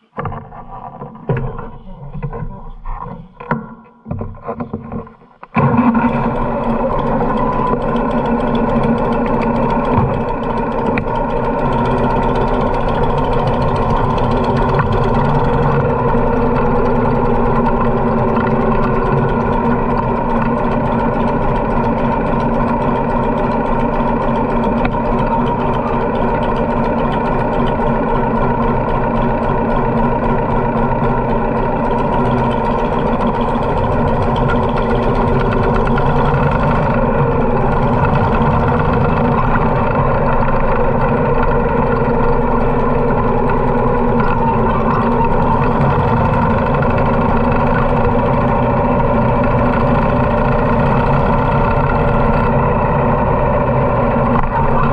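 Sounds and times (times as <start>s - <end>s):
motorcycle engine running: 5.0s - 54.9s.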